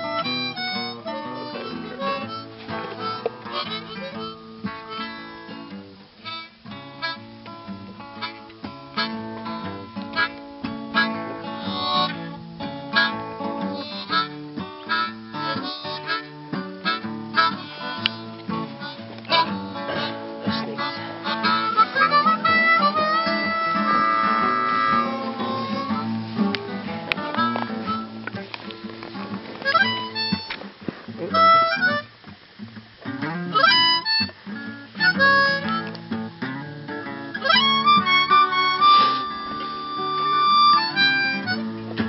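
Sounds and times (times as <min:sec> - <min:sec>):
harmonica melody: 0:00.0 - 0:32.2, 0:33.2 - 0:42.0
picked acoustic guitar: 0:00.0 - 0:42.0.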